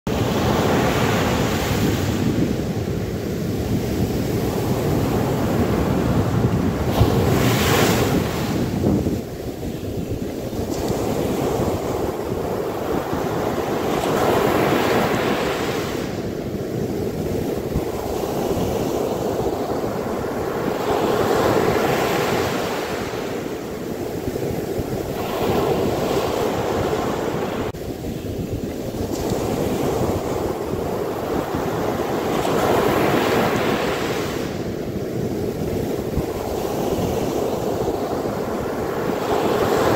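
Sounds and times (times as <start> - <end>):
sea surf breaking on beach: 0.1 - 39.9.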